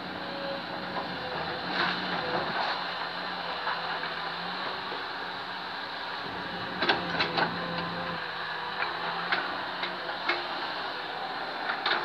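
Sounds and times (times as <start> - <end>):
excavator engine hum: 0.0 - 12.0.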